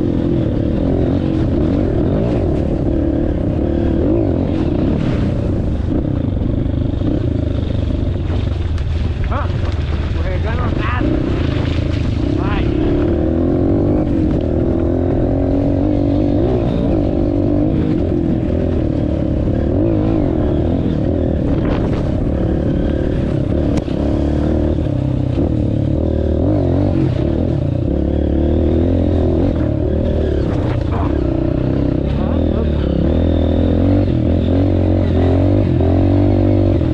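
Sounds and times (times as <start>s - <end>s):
dirt bike engine revving: 0.0s - 8.6s, 9.3s - 36.9s.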